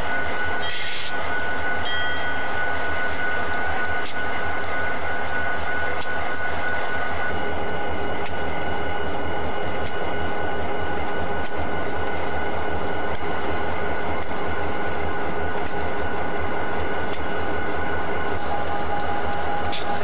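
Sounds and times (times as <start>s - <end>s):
diesel locomotive idling: 0.0s - 20.0s
high whine: 0.0s - 20.0s.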